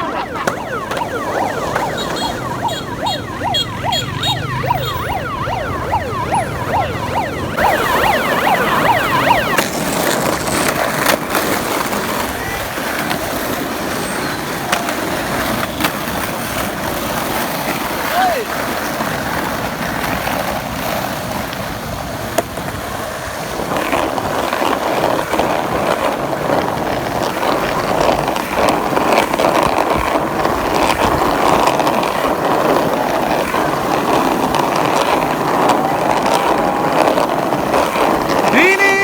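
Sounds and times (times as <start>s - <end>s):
skateboard clack: 0.0s - 4.6s, 8.4s - 39.0s
skateboard wheels rolling on concrete: 0.0s - 39.0s.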